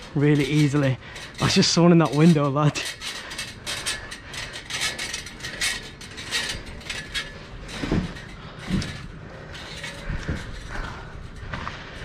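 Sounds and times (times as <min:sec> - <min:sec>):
clicks rattles and scrapes: 0:00.0 - 0:12.0.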